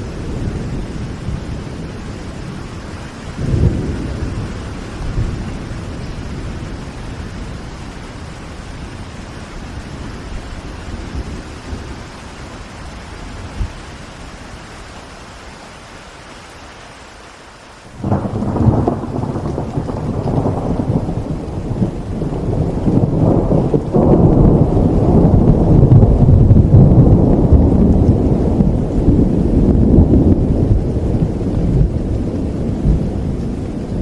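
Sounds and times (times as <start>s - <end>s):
thunder rumbling: 0.0s - 14.6s, 17.9s - 34.0s
steady rain falling: 0.0s - 34.0s.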